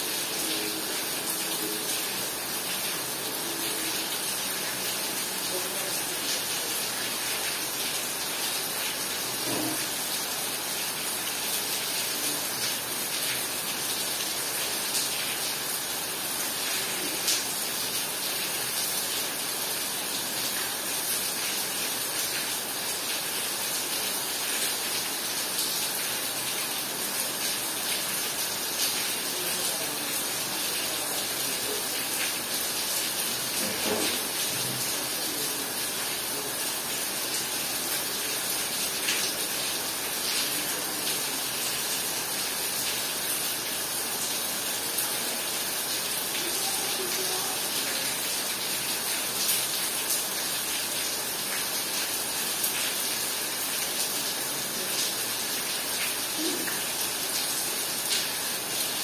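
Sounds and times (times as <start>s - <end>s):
heavy rain pouring: 0.0s - 59.0s
sharp drips and splashes: 0.0s - 59.0s.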